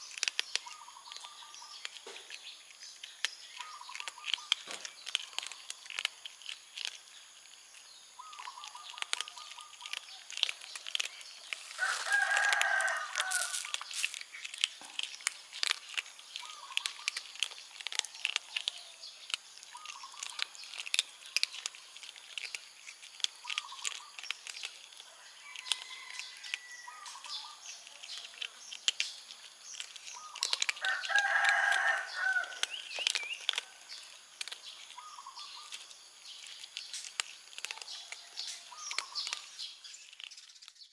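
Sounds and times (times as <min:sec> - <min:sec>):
kittens crunching dry kibble: 0:00.0 - 0:40.9.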